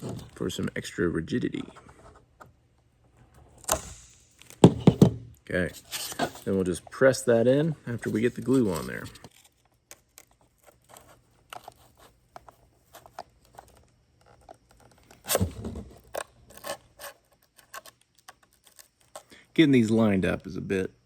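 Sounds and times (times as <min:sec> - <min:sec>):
foam parts scraping and clicking: 0:00.0 - 0:20.1.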